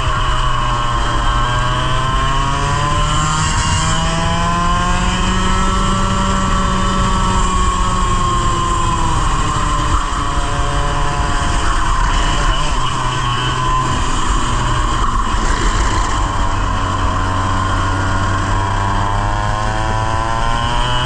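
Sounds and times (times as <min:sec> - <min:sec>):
kart engine revving: 0:00.0 - 0:21.0.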